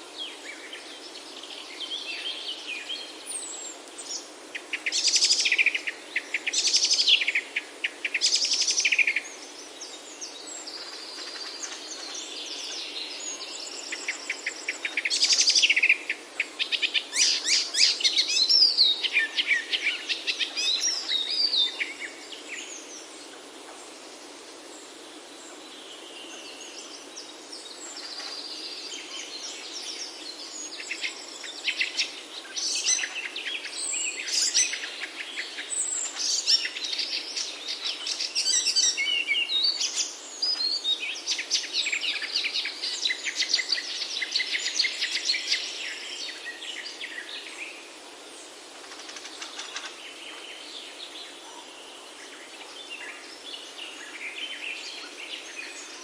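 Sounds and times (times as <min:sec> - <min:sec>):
soft steady hiss: 0:00.0 - 0:56.0
songbirds singing: 0:00.0 - 0:56.0.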